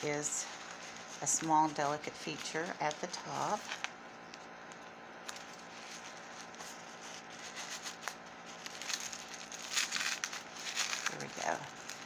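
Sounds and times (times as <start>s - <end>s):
packing paper rustling: 0.0s - 12.0s.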